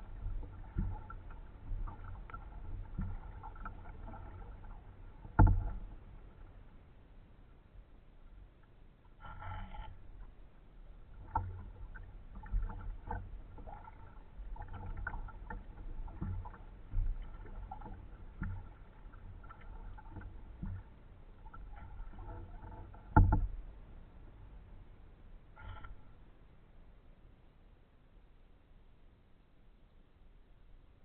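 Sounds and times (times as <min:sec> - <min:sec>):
kayak paddle strokes in water: 0:00.0 - 0:26.4.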